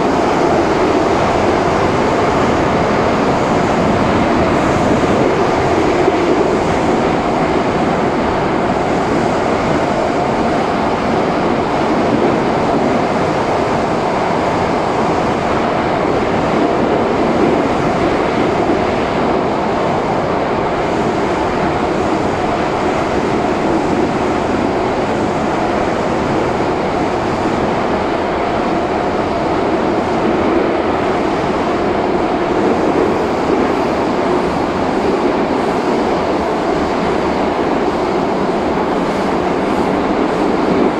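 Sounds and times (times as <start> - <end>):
subway train running through tunnel: 0.0 - 40.9.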